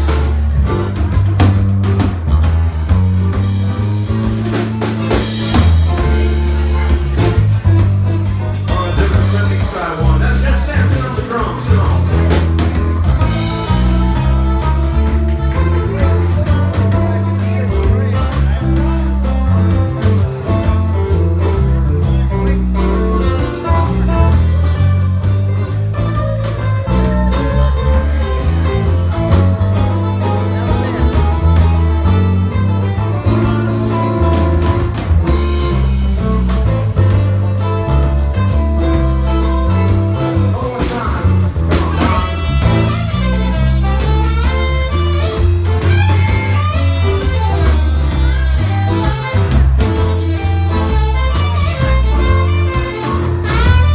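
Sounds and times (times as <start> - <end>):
acoustic guitar: 0.0 - 53.9
drum kit: 0.0 - 53.9
electric bass guitar: 0.0 - 53.9.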